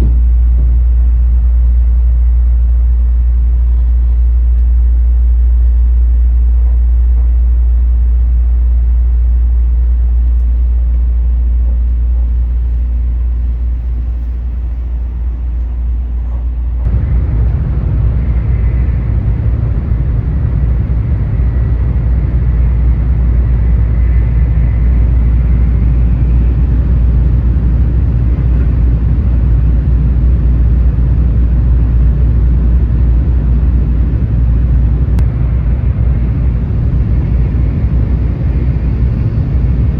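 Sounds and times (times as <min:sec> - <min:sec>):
faint high whine: 0:00.0 - 0:39.9
train cabin rumble: 0:00.0 - 0:39.9.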